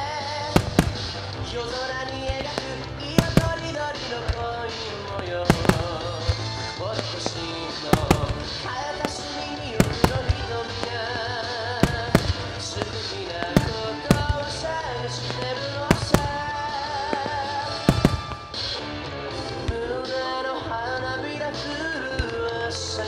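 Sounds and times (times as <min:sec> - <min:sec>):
fireworks bursting in sharp bangs: 0:00.0 - 0:23.0
music playing: 0:00.0 - 0:23.0.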